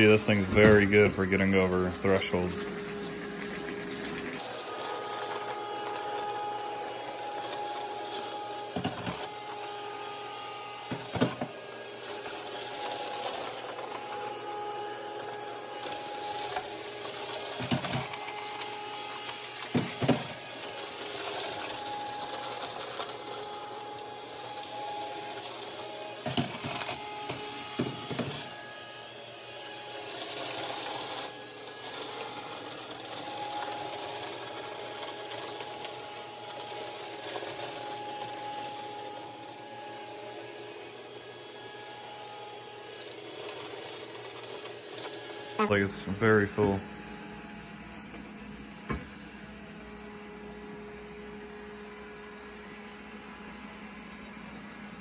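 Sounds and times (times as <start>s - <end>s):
robot vacuum whining: 0.0s - 55.0s.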